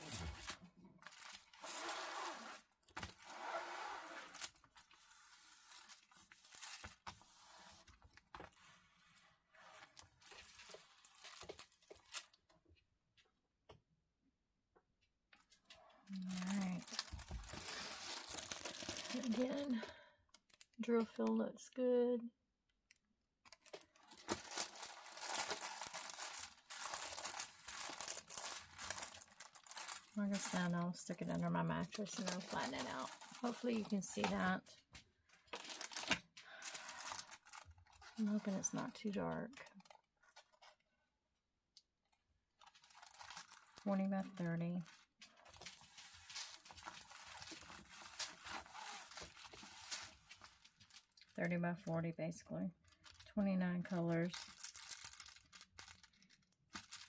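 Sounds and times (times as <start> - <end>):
plastic packaging rustling and crinkling: 0.0 - 12.5, 15.4 - 21.3, 23.5 - 40.8, 42.5 - 51.6, 52.8 - 57.0.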